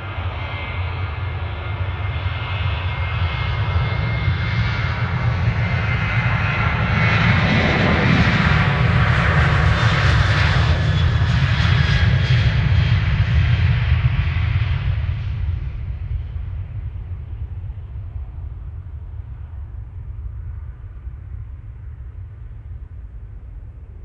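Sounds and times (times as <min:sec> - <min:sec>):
jet engines roaring with whine: 0:00.0 - 0:24.0.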